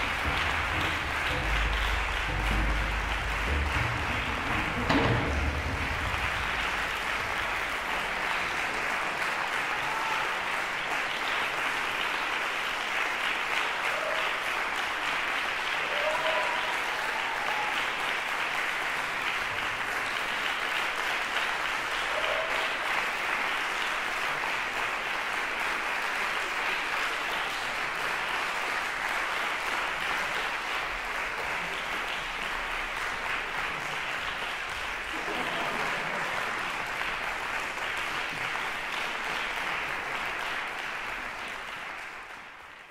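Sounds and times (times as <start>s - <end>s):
audience applauding: 0.0s - 42.9s.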